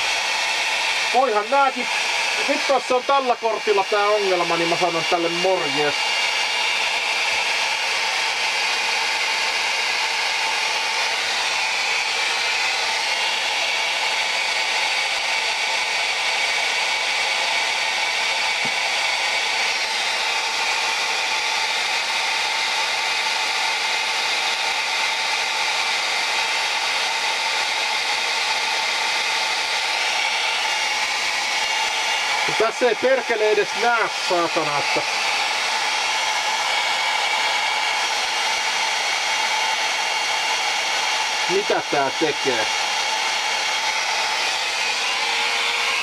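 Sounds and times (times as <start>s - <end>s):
fan whirring: 0.0s - 46.0s.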